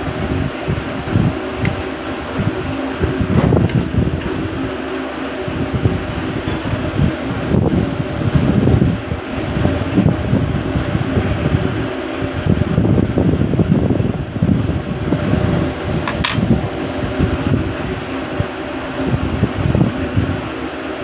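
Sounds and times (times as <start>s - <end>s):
electric fan rushing: 0.0s - 21.0s.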